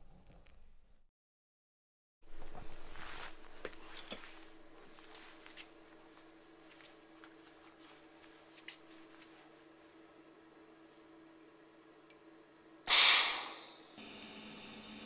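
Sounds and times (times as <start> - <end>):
steady low hum: 2.3 - 15.0.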